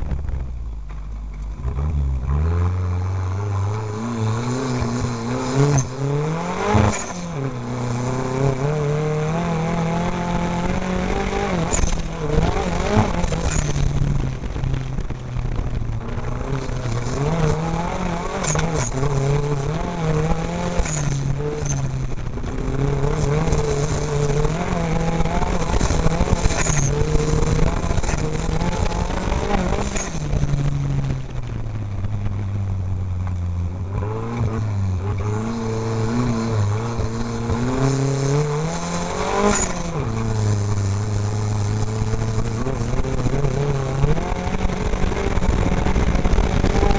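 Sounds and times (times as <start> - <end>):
race vehicle engine revving: 0.0 - 46.9.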